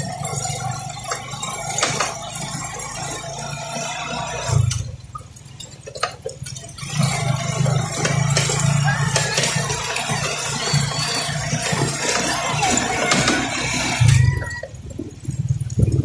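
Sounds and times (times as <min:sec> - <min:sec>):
motorcycle engine running: 0:00.0 - 0:16.0
rattling: 0:00.0 - 0:16.0
wind: 0:00.0 - 0:16.0.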